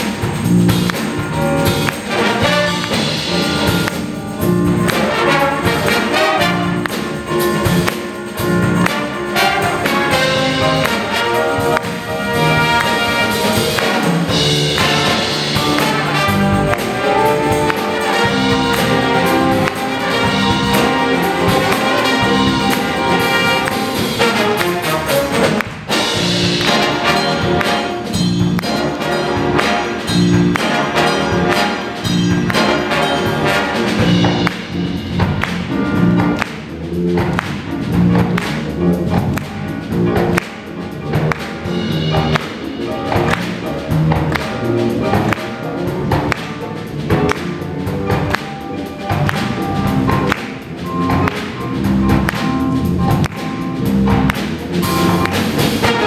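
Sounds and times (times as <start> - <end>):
congas: 0.0 - 56.0
drum kit: 0.0 - 56.0
electric bass: 0.0 - 56.0
horn section: 0.0 - 56.0.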